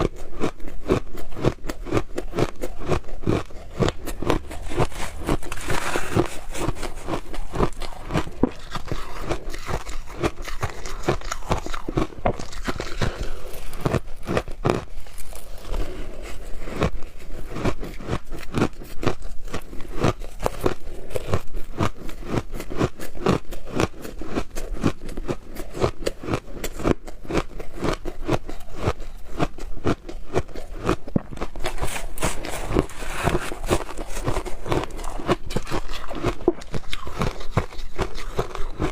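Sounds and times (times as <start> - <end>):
ice crunching being chewed: 0.0 - 38.9.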